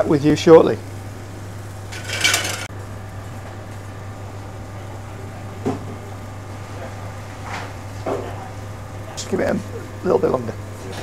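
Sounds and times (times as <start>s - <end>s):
kitchen low hum: 0.0s - 11.0s.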